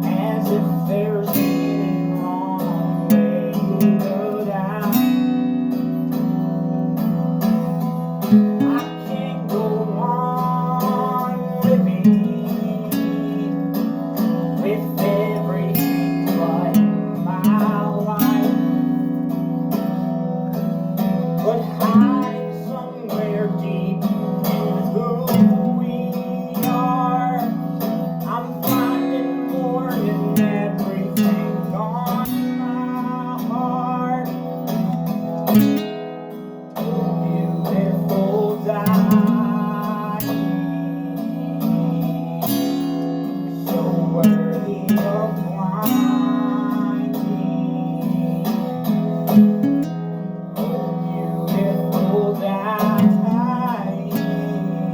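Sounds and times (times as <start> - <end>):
strummed acoustic guitar: 0.0 - 54.9.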